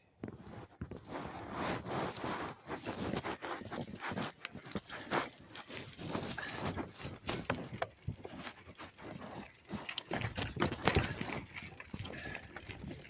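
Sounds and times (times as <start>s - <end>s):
bike rattling over rough trail: 1.0s - 13.0s.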